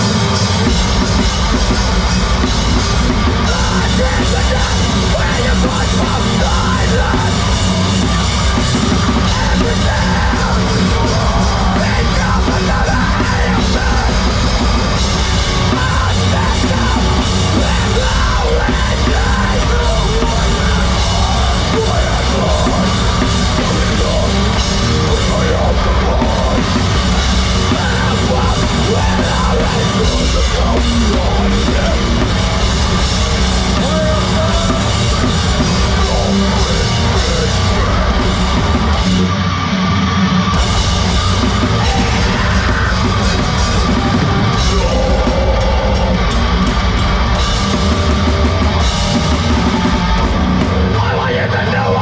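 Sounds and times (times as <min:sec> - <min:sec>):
drum kit: 0:00.0 - 0:52.0
heavy rock band playing live: 0:00.0 - 0:52.0.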